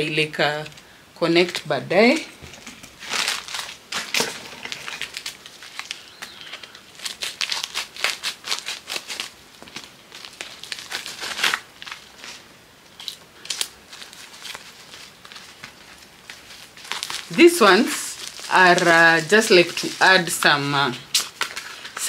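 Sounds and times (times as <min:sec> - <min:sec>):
plastic packaging crinkling: 0:00.6 - 0:22.0.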